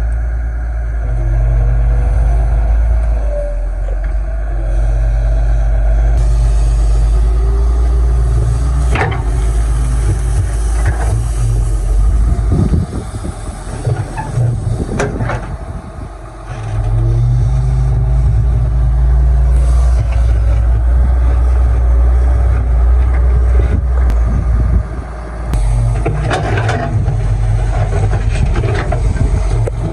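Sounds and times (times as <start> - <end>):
diesel excavator engine under load: 0.0 - 29.9.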